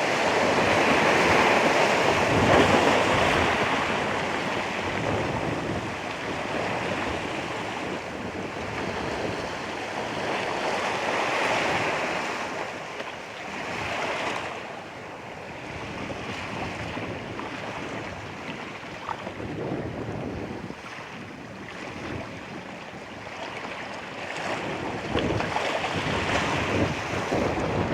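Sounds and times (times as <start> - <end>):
ocean waves washing onto shore: 0.0 - 27.9
wind buffeting the microphone: 0.0 - 27.9.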